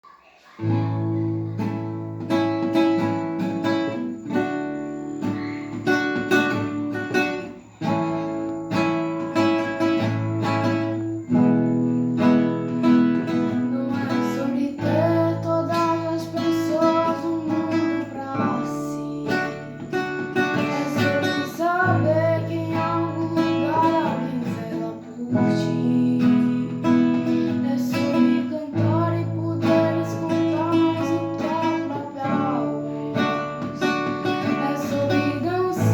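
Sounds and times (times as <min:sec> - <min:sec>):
acoustic guitar strumming: 0:00.0 - 0:35.9.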